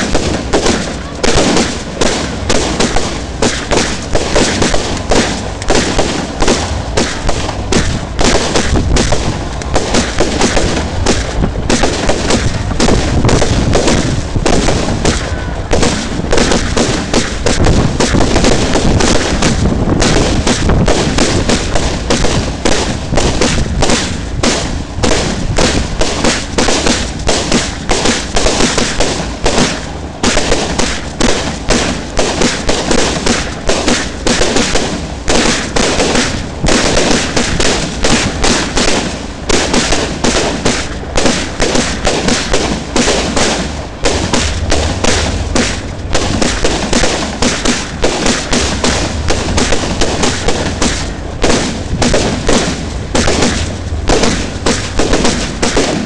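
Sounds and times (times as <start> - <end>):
fireworks launching and bursting: 0.0 - 56.0.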